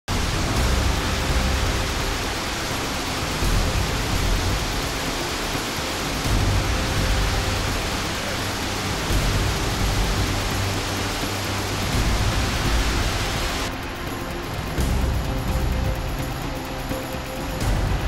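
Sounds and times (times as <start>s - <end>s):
deep water rumble: 0.1s - 16.5s
waterfall rushing: 0.1s - 18.0s.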